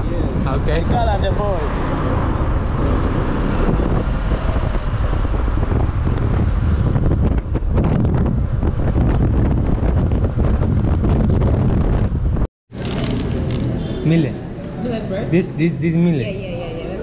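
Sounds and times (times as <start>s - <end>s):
wind blasting microphone: 0.0s - 13.9s
road noise: 0.0s - 17.0s.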